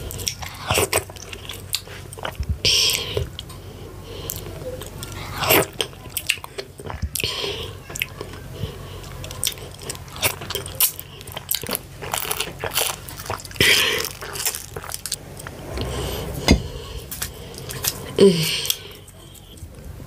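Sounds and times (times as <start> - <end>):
chewing with mouth clicks: 0.0 - 19.8.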